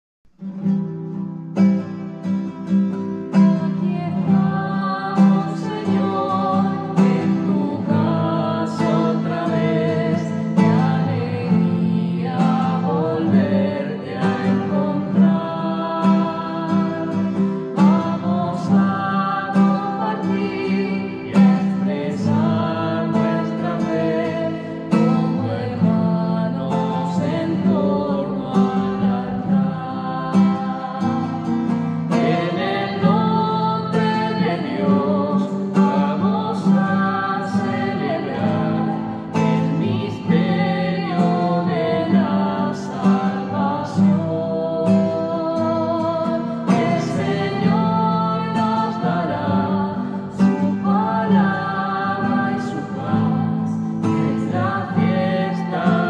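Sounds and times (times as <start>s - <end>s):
acoustic guitar: 0.3s - 56.0s
person singing: 3.3s - 56.0s.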